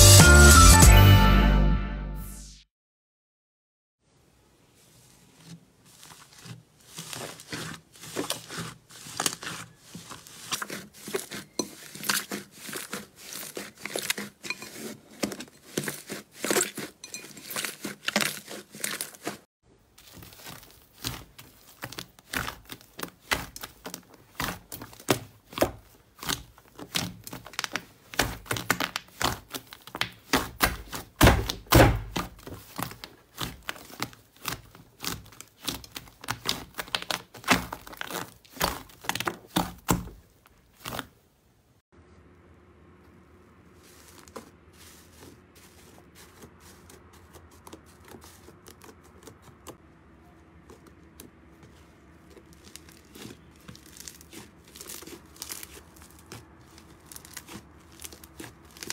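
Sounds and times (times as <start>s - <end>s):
hands squeezing slime: 4.8s - 41.2s, 43.7s - 49.8s, 50.6s - 58.9s.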